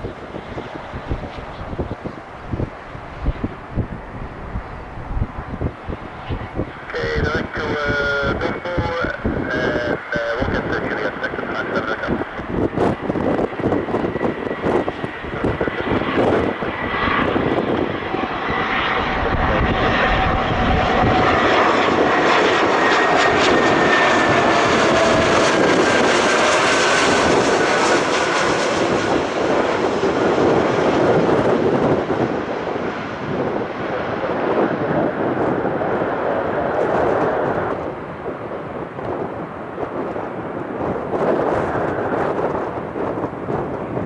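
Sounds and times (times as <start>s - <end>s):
falling jet whine: 0.0s - 44.0s
jet engines passing: 0.0s - 44.0s.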